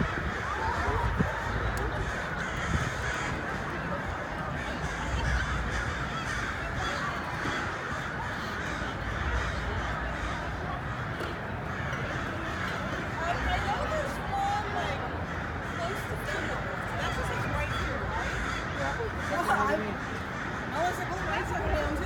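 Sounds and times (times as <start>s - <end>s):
flock of birds calling harshly: 0.0s - 11.1s, 11.8s - 22.0s.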